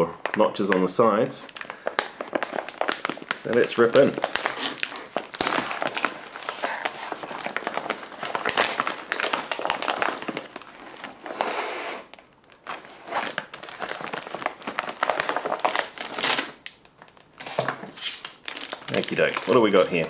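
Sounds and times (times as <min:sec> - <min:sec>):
plastic pouch crinkling: 0:00.2 - 0:20.0.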